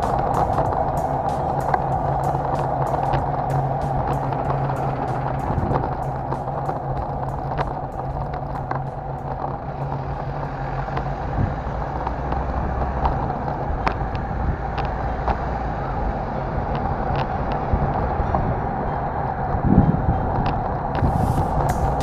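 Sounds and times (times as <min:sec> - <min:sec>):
low engine hum: 0:00.0 - 0:22.0
vehicle engines running: 0:00.0 - 0:22.0.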